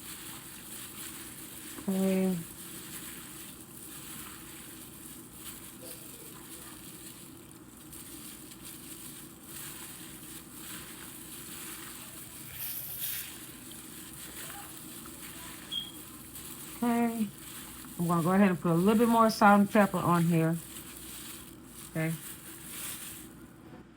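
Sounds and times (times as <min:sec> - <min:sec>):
wet squishing of raw chicken: 0:00.0 - 0:23.5
glove crinkling: 0:00.0 - 0:23.6.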